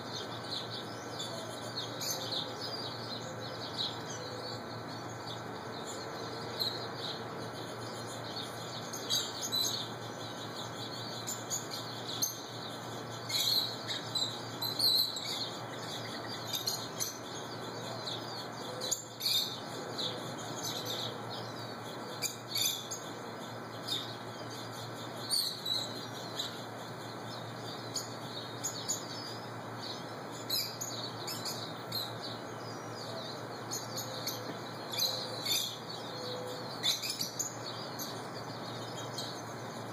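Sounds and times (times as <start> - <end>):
birds chirping: 0.0 - 39.9
steady low hum: 0.0 - 39.9.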